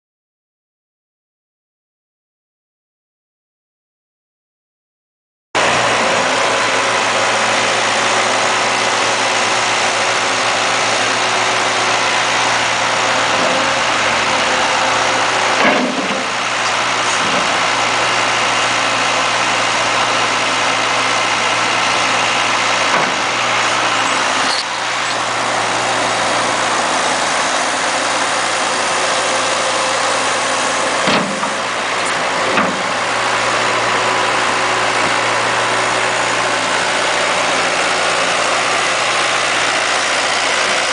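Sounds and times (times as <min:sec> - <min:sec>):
diesel engine running steadily: 0:05.6 - 0:40.9.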